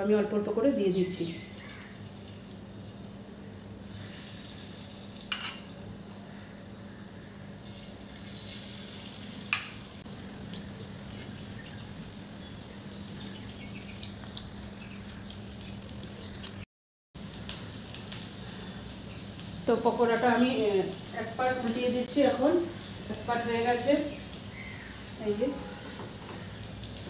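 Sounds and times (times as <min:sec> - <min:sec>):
batter frying in hot oil: 0:01.0 - 0:27.0.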